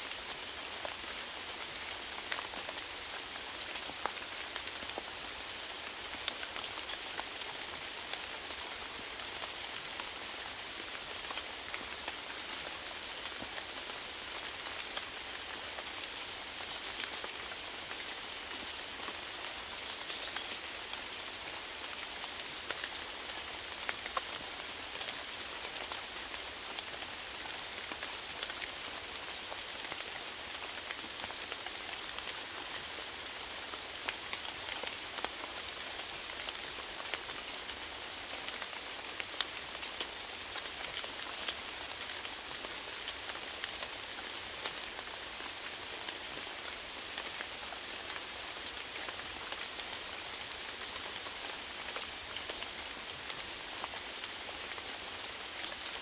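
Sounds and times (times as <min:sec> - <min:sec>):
rain drops pattering on a surface: 0:00.0 - 0:56.0.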